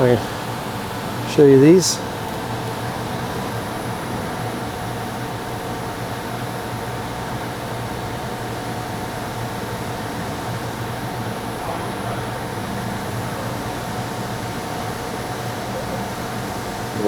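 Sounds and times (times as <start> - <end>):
faint steady tones: 0.0 - 17.0
mechanical drone with hiss: 0.0 - 17.0.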